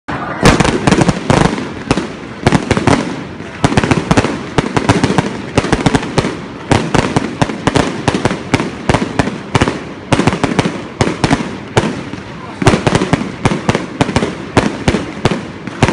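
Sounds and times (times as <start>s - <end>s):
fireworks bangs and crackles: 0.1s - 15.9s.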